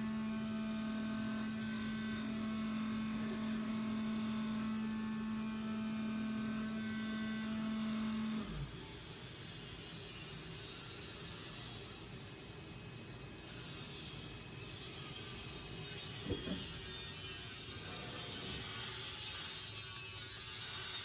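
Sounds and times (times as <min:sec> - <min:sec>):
cutting machine high hum: 0:00.0 - 0:10.9, 0:13.4 - 0:21.0.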